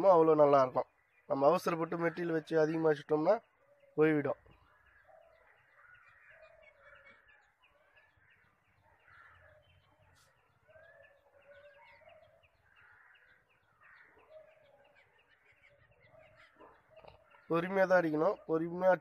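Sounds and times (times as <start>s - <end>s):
faint bird chirps and calls: 0.0s - 19.0s.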